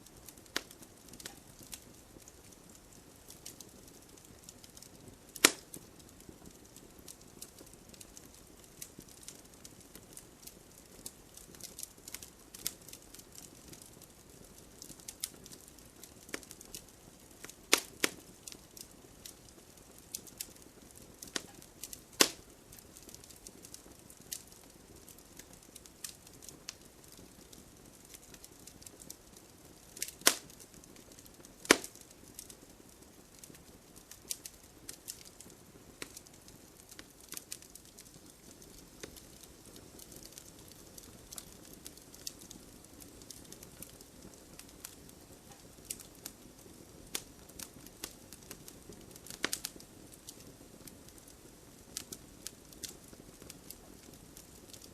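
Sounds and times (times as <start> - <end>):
hiss of burning: 0.0 - 54.9
campfire pops and snaps: 0.1 - 54.9.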